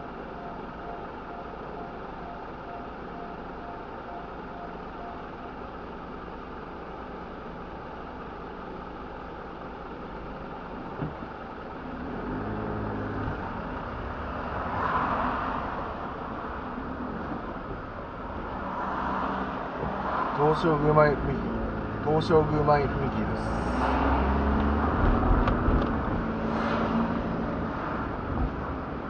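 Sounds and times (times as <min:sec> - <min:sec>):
road and engine hum: 0:00.0 - 0:29.0.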